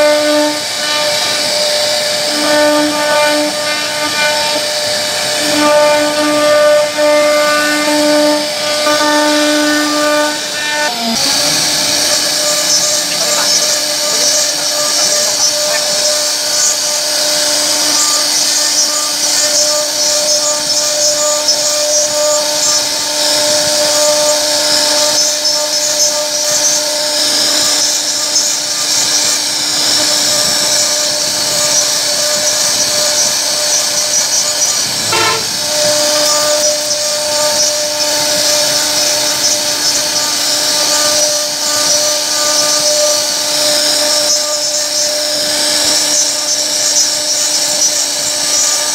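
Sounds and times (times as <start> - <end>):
bit cutting wood hiss: 0.0 - 48.9
router spindle whine: 0.0 - 48.9.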